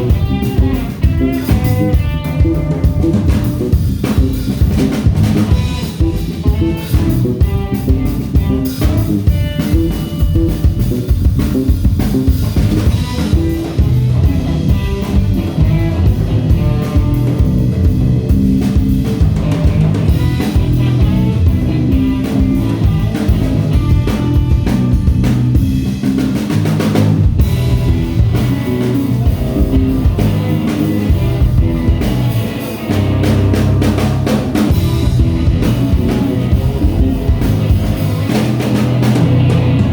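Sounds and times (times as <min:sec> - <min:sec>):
bass guitar: 0:00.0 - 0:39.9
drum kit beat: 0:00.0 - 0:39.9
guitar: 0:00.0 - 0:39.9.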